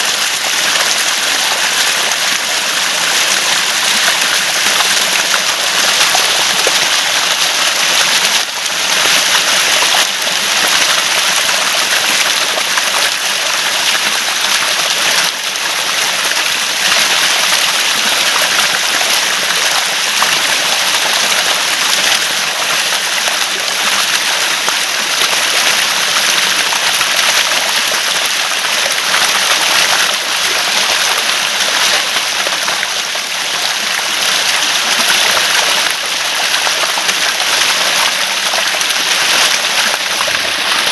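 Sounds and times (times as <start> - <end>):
running water gurgling: 0.0 - 40.9.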